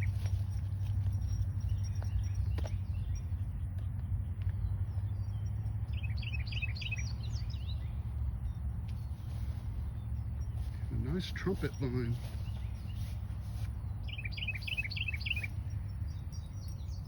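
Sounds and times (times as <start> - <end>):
low outdoor rumble: 0.0 - 17.0
small songbird chirping: 0.0 - 17.0.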